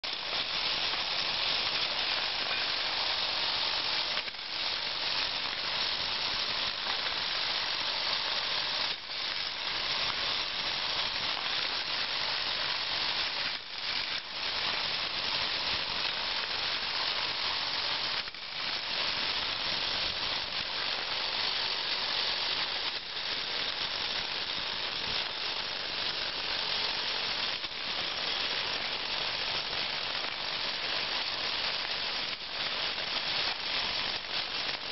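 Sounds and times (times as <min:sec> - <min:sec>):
model motor whirring and rattling: 0:00.0 - 0:34.9.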